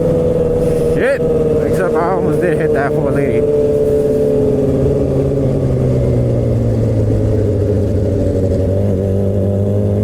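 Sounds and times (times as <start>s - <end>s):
motorcycle exhaust running: 0.0s - 10.0s.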